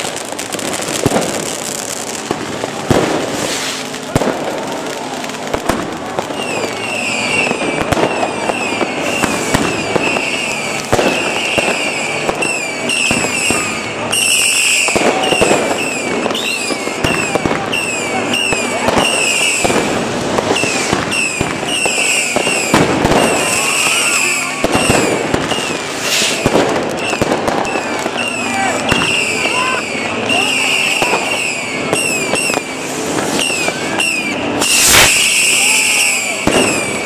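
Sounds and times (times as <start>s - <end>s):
firecrackers banging: 0.0s - 37.0s
fireworks crackling: 0.0s - 37.0s
whistling fireworks: 0.0s - 37.0s.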